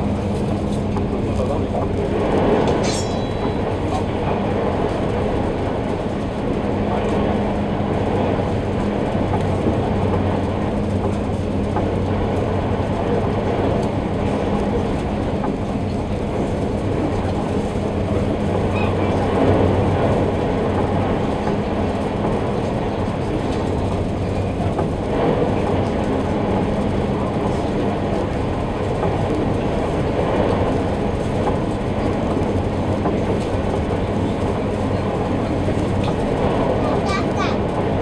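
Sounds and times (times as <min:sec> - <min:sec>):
ferry engines droning: 0:00.0 - 0:38.0.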